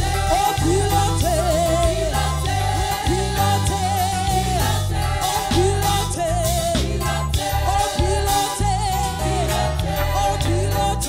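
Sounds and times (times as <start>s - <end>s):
band accompaniment: 0.0s - 11.0s
heavy repeating bass line: 0.0s - 11.0s.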